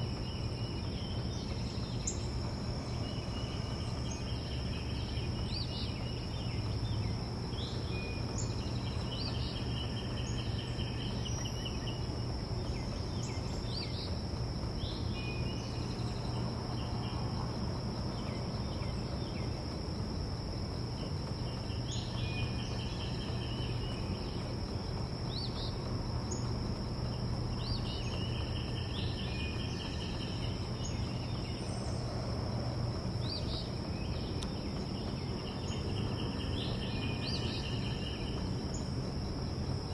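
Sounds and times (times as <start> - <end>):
high insect drone: 0.0 - 39.9
songbirds chirping and trilling: 0.0 - 39.9.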